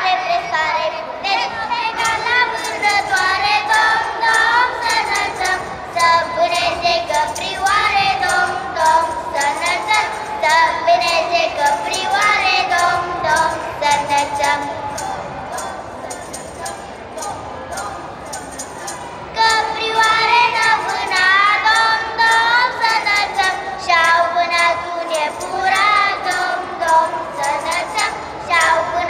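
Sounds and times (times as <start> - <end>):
children singing a carol: 0.0 - 29.0.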